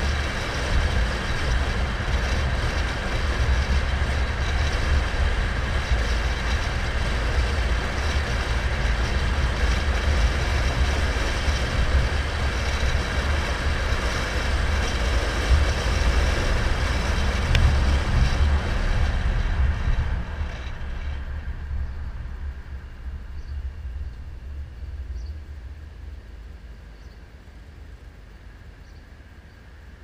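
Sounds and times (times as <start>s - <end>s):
car road noise: 0.0s - 30.0s
wind rumble: 0.0s - 30.0s.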